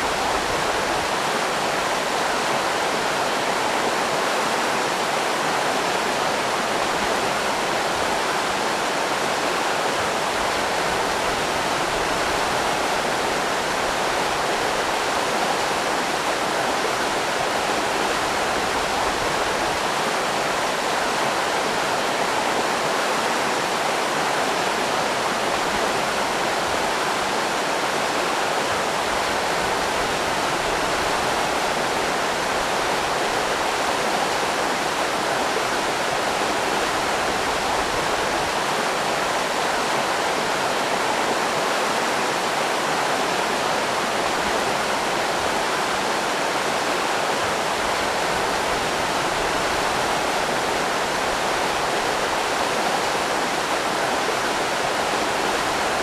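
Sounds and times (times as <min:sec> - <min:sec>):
river rapids rushing over rocks: 0:00.0 - 0:56.0.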